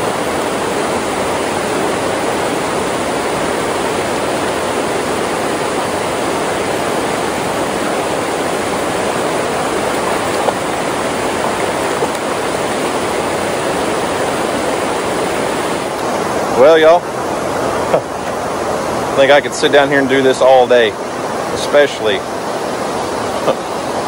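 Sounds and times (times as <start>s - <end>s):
water rushing over waterfall: 0.0s - 24.0s.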